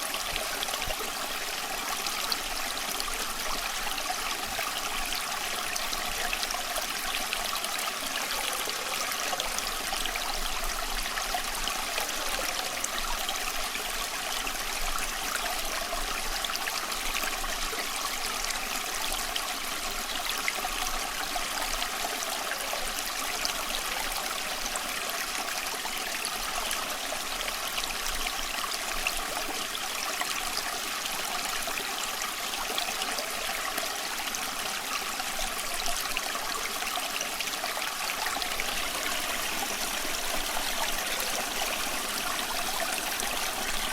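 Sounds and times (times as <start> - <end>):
stream flowing over stones: 0.0 - 43.9.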